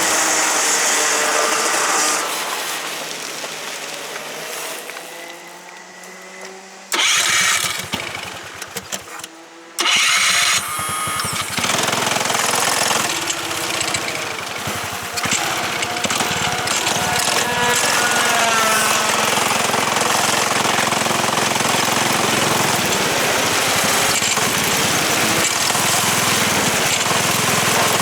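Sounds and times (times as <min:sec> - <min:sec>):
kart engine running loud: 0:00.0 - 0:03.3, 0:04.6 - 0:28.0.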